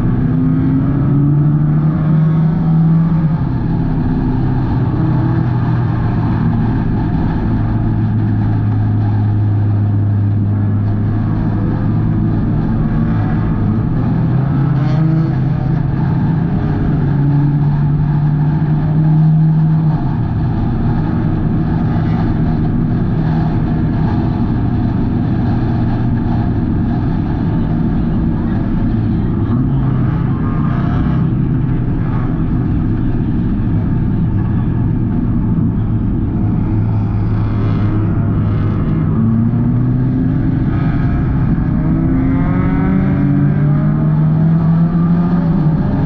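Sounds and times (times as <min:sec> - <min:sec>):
stock car engine racing: 0:00.0 - 0:46.0.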